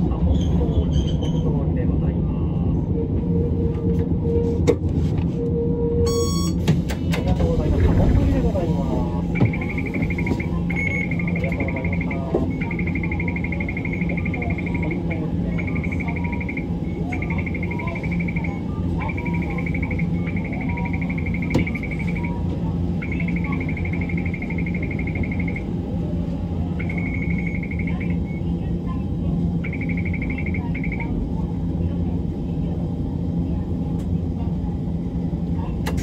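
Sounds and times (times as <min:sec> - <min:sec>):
tram rumble and hum: 0:00.0 - 0:36.0.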